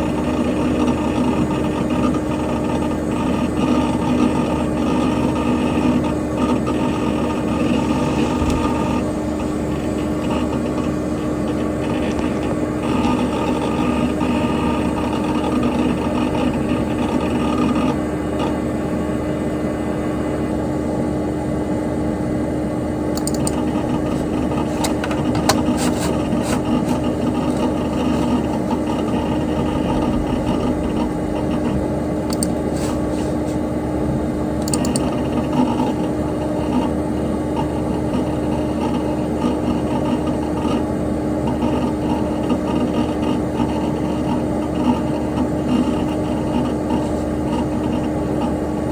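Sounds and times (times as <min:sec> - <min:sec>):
hard drive clicking: 0:00.0 - 0:18.6, 0:23.1 - 0:33.8, 0:34.4 - 0:48.9
computer fan whirring: 0:00.0 - 0:48.9.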